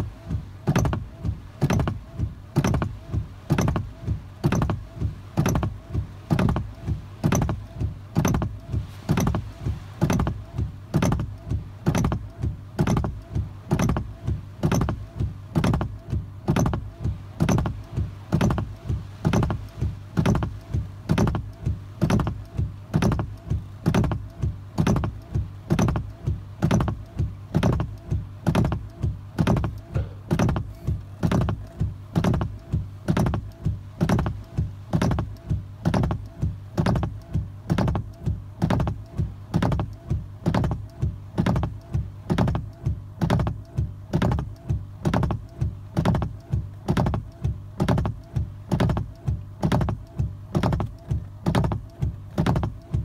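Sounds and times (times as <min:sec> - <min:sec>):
low steady hum: 0:00.0 - 0:53.0
windshield wipers knocking: 0:00.0 - 0:53.0.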